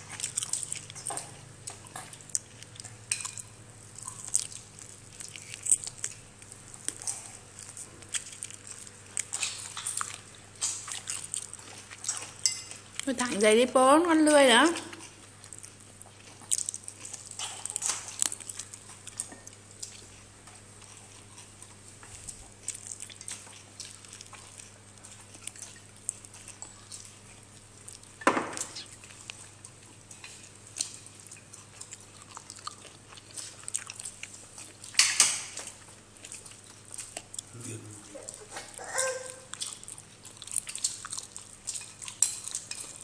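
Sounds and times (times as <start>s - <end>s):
dog chewing and crunching: 0.0s - 13.4s, 14.0s - 43.0s.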